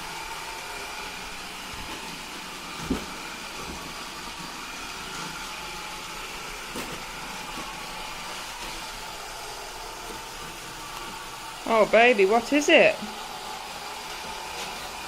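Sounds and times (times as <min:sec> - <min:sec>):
robot vacuum whirring hum: 0:00.0 - 0:15.0.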